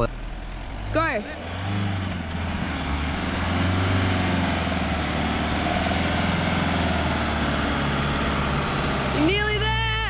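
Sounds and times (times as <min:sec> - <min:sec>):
vehicle engine revving under load: 0:00.0 - 0:10.0.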